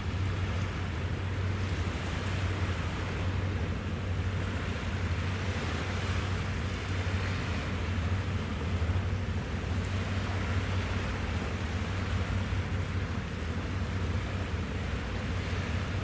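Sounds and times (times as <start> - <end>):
ship engines humming: 0.0 - 16.0
wind and water hiss: 0.0 - 16.0.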